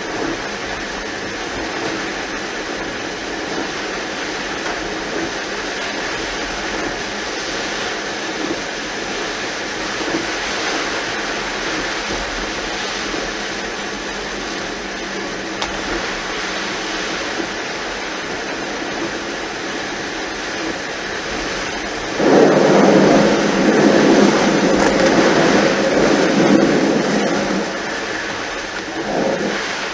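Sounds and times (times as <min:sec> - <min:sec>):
heavy rain: 0:00.0 - 0:29.9
tyres throwing up floodwater: 0:00.0 - 0:29.9
vehicle noise on flooded road: 0:00.0 - 0:29.9.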